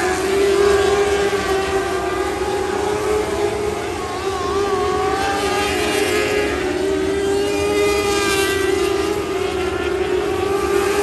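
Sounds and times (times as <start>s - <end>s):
high-revving motorcycle engine: 0.0s - 11.0s.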